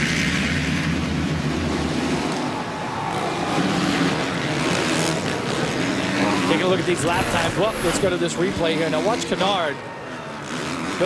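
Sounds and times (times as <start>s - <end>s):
motorcycles racing at full throttle: 0.0s - 11.0s.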